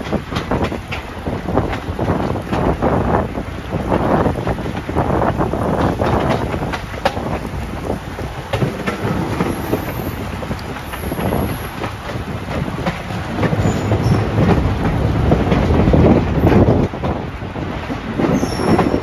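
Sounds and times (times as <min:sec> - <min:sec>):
wheel and wind rush: 0:00.0 - 0:19.0
wheels clicking over rail joints: 0:00.0 - 0:19.0.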